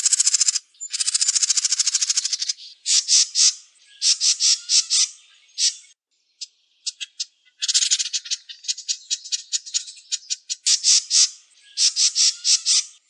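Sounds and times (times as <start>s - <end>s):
wren singing: 0.0s - 13.0s.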